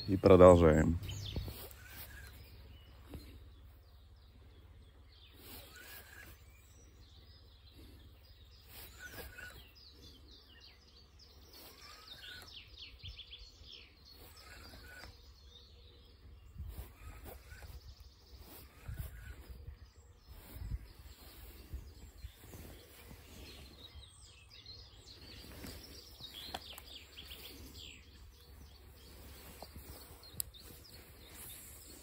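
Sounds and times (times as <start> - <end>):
faint birdsong chirps: 0.0 - 32.0.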